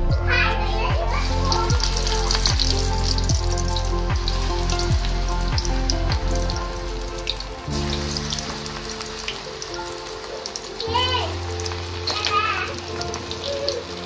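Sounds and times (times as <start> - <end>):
background music: 0.0 - 14.0
hot oil sizzling and crackling: 0.8 - 14.0.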